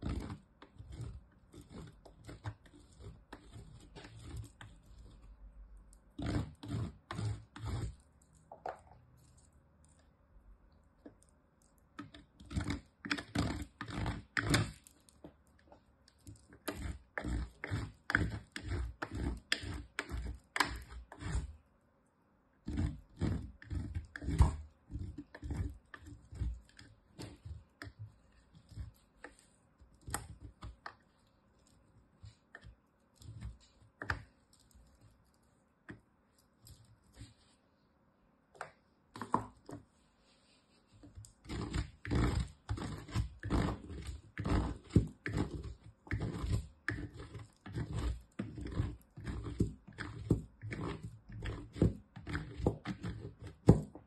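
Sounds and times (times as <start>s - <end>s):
soap scraped on metal grater: 0.0s - 10.0s, 11.0s - 21.6s, 22.6s - 35.5s, 40.9s - 53.9s.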